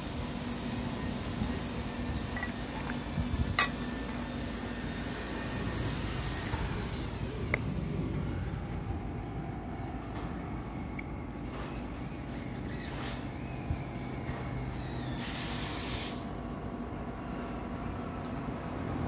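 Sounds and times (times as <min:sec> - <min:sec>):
low outdoor rumble: 0:00.0 - 0:15.3.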